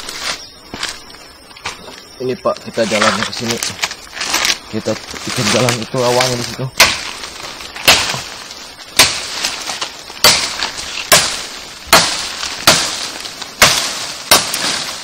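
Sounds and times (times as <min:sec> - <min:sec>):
footsteps crunching through dry leaves: 0:02.6 - 0:15.0.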